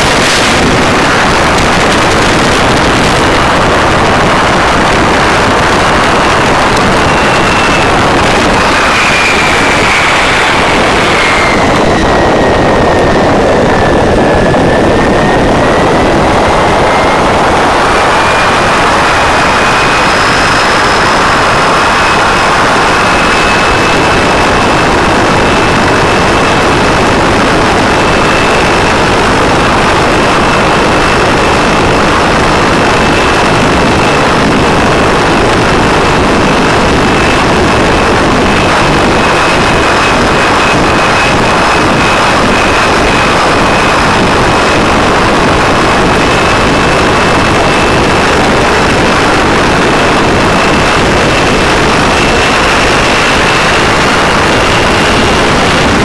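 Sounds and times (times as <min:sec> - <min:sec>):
boat engine running hard: 0:00.0 - 0:56.0
high whine: 0:00.0 - 0:56.0.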